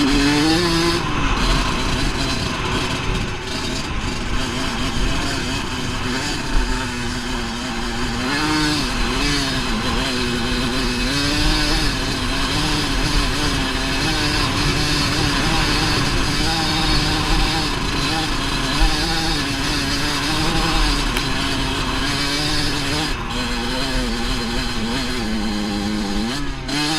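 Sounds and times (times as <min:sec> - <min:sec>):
dirt bike engine revving: 0:00.0 - 0:26.9.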